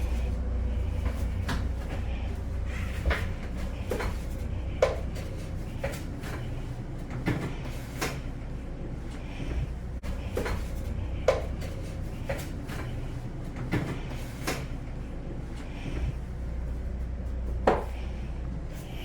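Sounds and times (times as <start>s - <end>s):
air conditioner hum: 0.0s - 19.0s.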